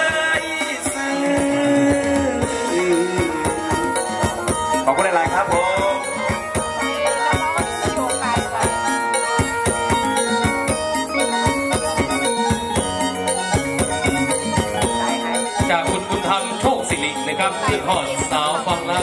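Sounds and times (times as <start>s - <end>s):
held melody: 0.0s - 19.0s.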